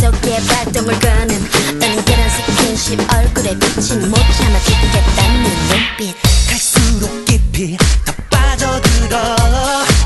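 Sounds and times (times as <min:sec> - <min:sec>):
bending vocal lines: 0:00.0 - 0:10.0
dance track with heavy kick drum: 0:00.0 - 0:10.0.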